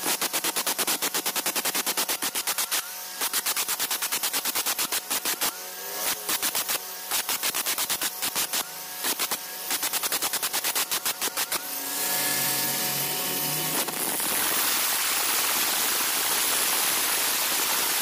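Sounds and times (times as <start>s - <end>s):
angle grinder on stone: 0.0s - 18.0s.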